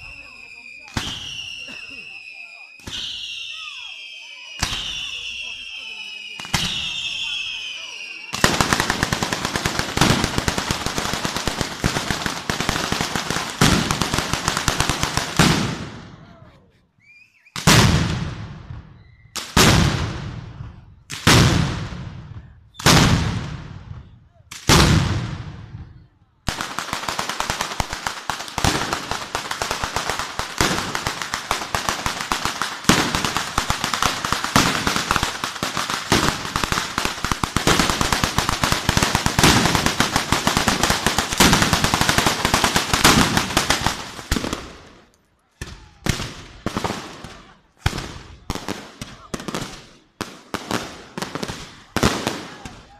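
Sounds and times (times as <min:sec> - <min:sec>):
firecrackers crackling: 0:00.0 - 0:16.2, 0:17.2 - 0:52.9.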